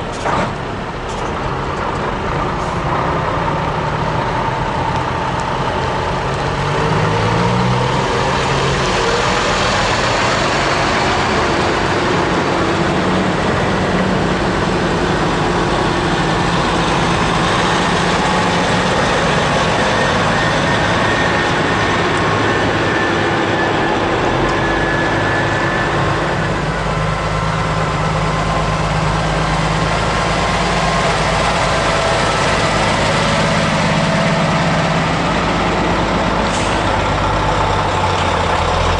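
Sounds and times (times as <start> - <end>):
diesel truck engines moving off: 0.0 - 38.9.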